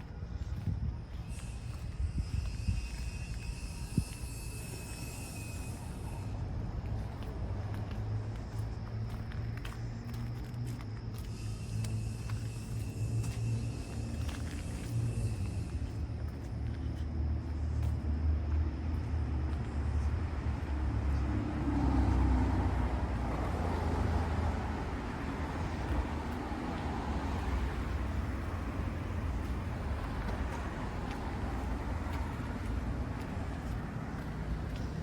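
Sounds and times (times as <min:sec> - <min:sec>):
low rumble of road traffic: 0:00.0 - 0:35.0
vehicle passing by: 0:04.0 - 0:35.0.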